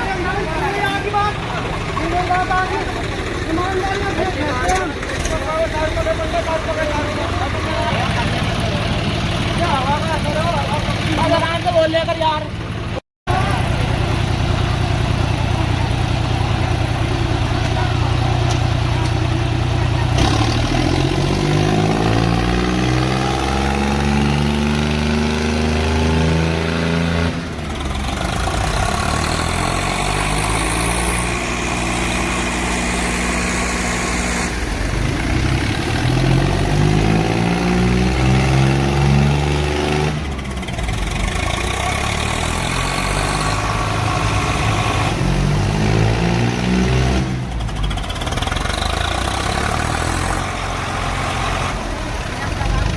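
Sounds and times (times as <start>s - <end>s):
diesel tractor engine revving: 0.0s - 52.9s.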